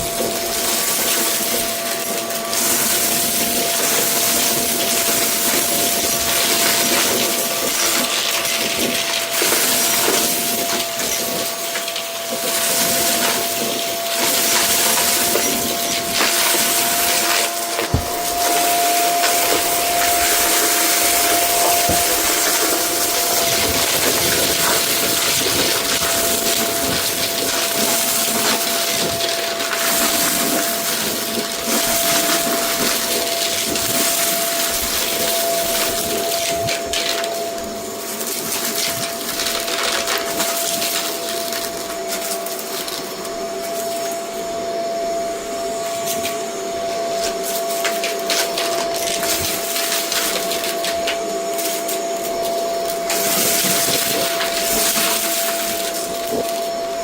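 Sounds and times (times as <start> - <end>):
vacuum cleaner motor whine: 0.0 - 57.0
debris crackling through hose: 0.5 - 37.3, 47.3 - 57.0.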